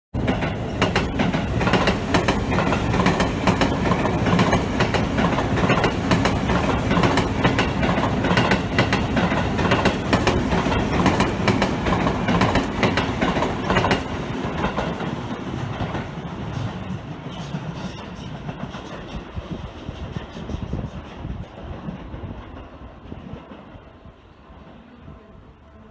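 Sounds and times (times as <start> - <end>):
electric train passing: 0.2 - 25.9.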